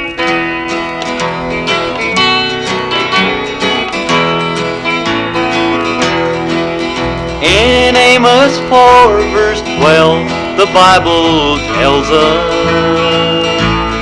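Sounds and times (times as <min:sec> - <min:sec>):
acoustic guitar country music: 0:00.0 - 0:14.0.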